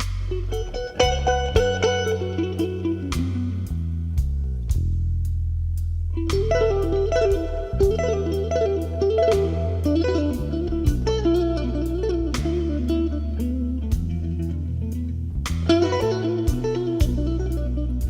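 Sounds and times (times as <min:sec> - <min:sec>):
blues guitar melody: 0:00.0 - 0:04.2, 0:06.2 - 0:18.0
regular beat: 0:00.0 - 0:18.0
steady bass notes: 0:00.0 - 0:18.0.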